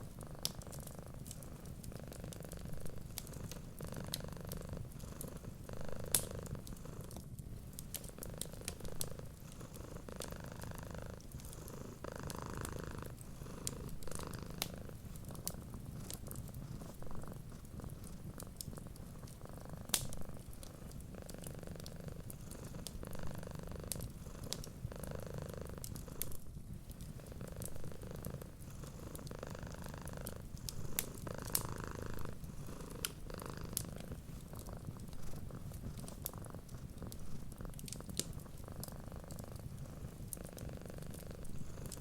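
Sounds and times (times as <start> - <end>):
cat purring: 0.0 - 42.0
wood fire popping and crackling: 0.0 - 42.0.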